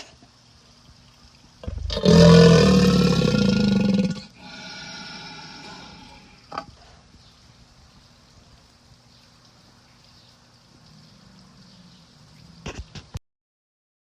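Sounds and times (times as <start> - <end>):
underwater rumble and hiss: 0.0 - 13.0.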